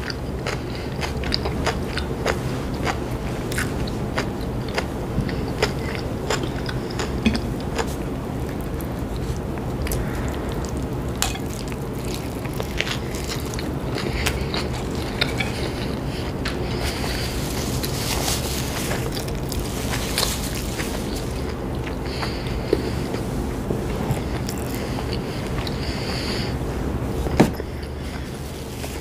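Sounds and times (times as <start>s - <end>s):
chewing sandwich: 0.0s - 26.6s.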